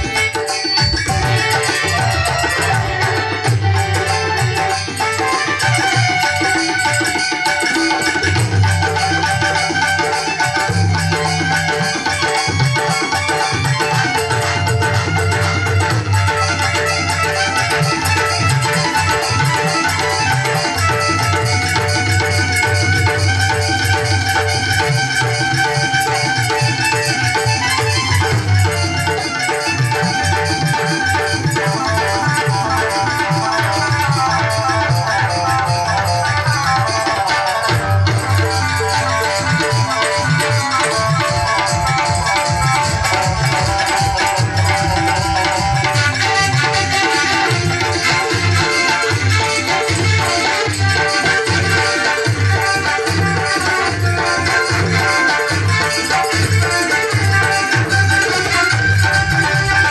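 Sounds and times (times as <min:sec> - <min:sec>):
hand drum rhythm: 0:00.0 - 0:59.9.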